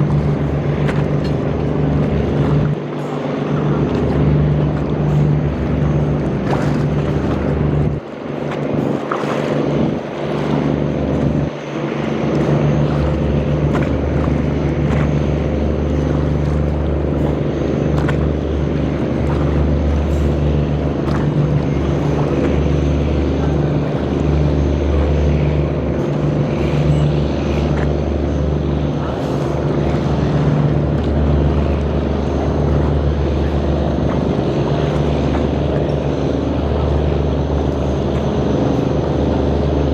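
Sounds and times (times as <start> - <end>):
boat engine humming: 0.0 - 39.9
water wash: 0.0 - 39.9.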